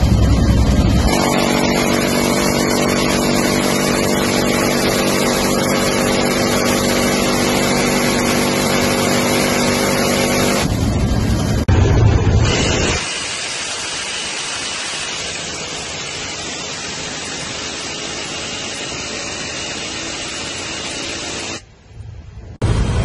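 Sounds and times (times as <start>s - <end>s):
helicopter rotor: 0.0s - 21.6s
minigun firing buzzing drone: 0.0s - 21.6s.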